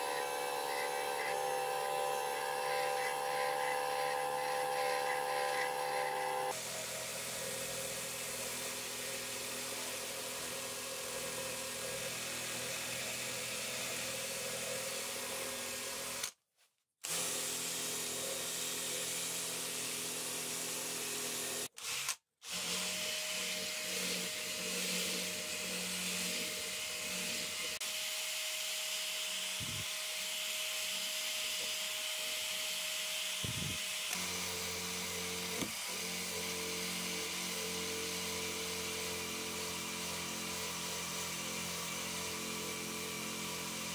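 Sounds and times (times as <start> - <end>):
cordless drill whine with grinding: 0.0 - 16.4, 17.0 - 43.9.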